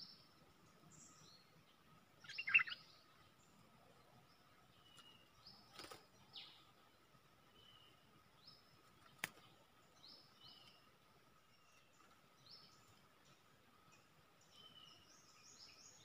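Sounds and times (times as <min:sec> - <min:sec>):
faint bird chirps: 0:00.0 - 0:16.0
faint steady hum: 0:00.0 - 0:16.0.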